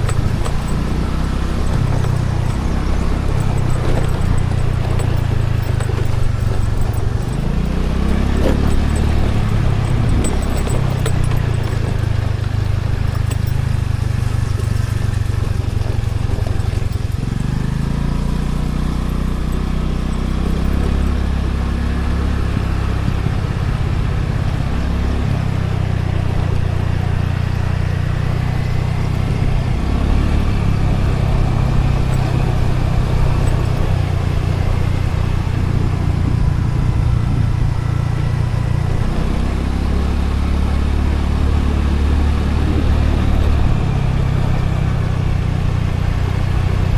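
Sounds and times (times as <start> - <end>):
road noise: 0.0 - 46.9
scooter engine droning: 0.0 - 46.9.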